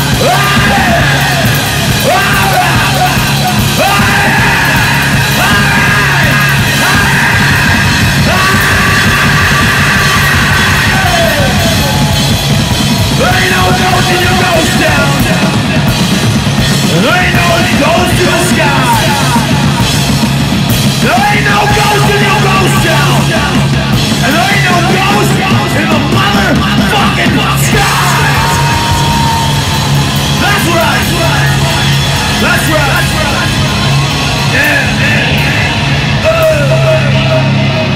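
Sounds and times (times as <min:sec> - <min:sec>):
distorted electric guitar: 0:00.0 - 0:37.9
pounding drum kit: 0:00.0 - 0:37.9
shouted lead vocals: 0:00.0 - 0:37.9.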